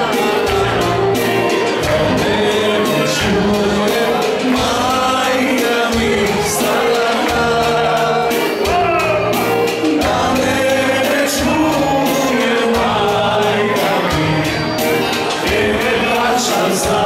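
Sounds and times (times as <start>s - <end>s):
electronic keyboard accompaniment: 0.0s - 17.0s
man singing: 0.0s - 17.0s
steady percussive beat: 0.0s - 17.0s.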